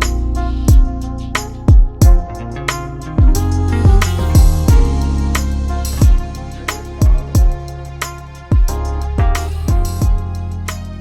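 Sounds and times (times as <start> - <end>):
music with deep bass and kick drum: 0.0 - 11.0.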